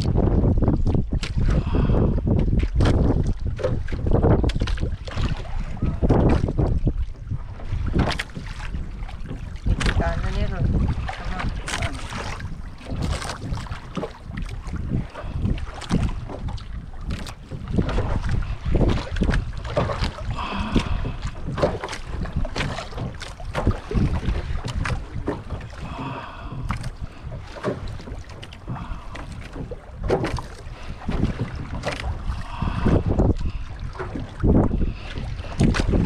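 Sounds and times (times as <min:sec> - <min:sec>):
water against boat: 0:00.0 - 0:36.0
wind buffeting microphone: 0:00.0 - 0:36.0.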